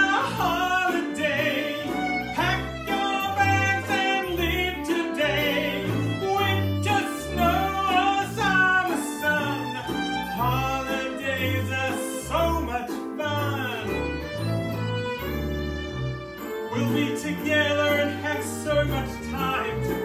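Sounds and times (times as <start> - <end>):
man singing: 0.0 - 14.2, 16.6 - 20.0
banjo: 0.0 - 20.0
fiddle: 0.0 - 20.0
plucked double bass: 0.0 - 20.0.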